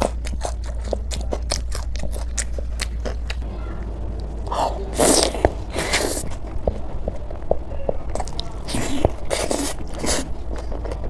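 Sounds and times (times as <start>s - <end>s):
crunchy bites and chewing: 0.0s - 3.4s, 4.5s - 11.0s.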